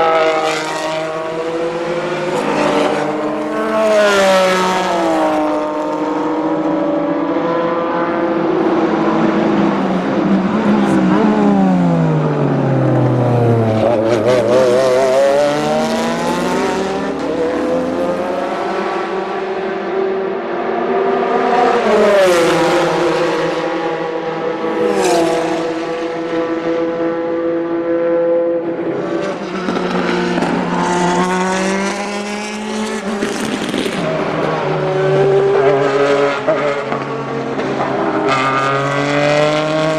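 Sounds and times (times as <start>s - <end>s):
racing car engine revving: 0.0s - 27.5s, 28.6s - 39.9s.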